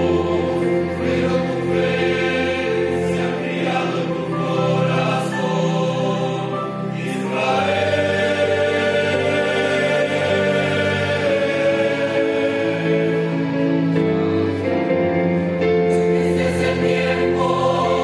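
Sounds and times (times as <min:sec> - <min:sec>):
mixed choir singing: 0:00.0 - 0:18.0.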